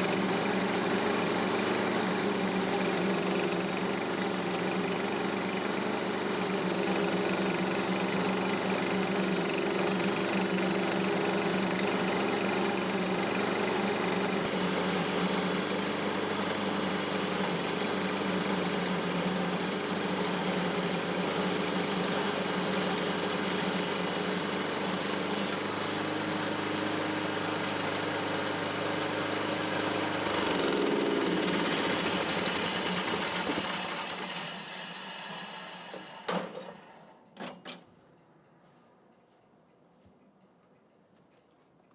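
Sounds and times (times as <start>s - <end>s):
bandsaw mill engine running: 0.0s - 37.1s.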